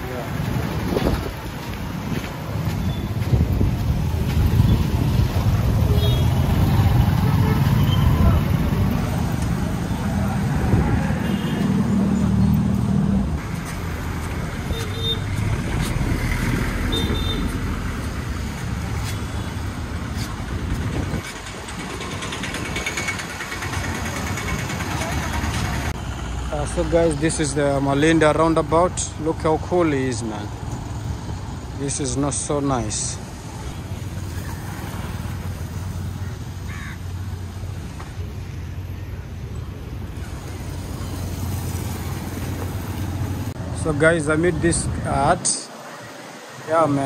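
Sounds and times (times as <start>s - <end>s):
vehicle engine rumbling: 0.0s - 45.4s
road noise: 0.0s - 47.0s.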